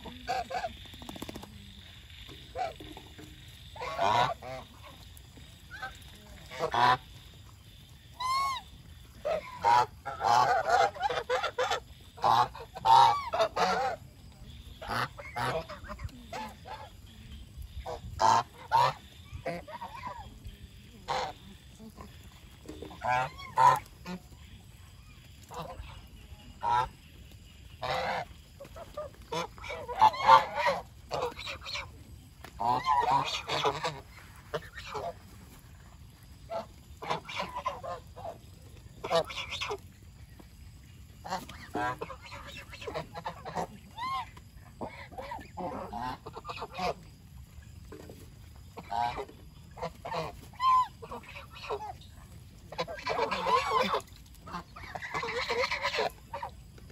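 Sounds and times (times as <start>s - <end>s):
geese honking: 2.4s - 14.0s, 14.7s - 17.0s, 17.7s - 22.0s, 22.6s - 31.9s, 32.5s - 35.3s, 36.4s - 39.8s, 41.2s - 47.0s, 48.8s - 52.1s, 52.7s - 56.6s.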